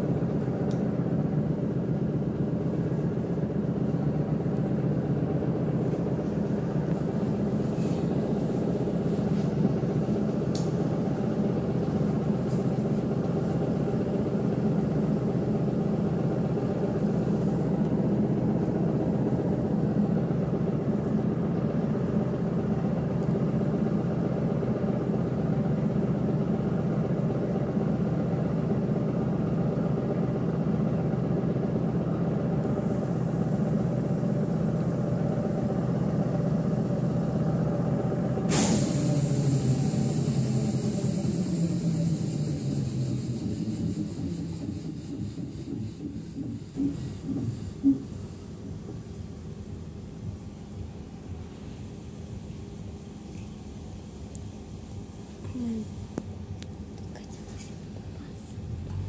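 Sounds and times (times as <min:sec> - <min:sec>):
bus engine idling: 0:00.0 - 0:59.0.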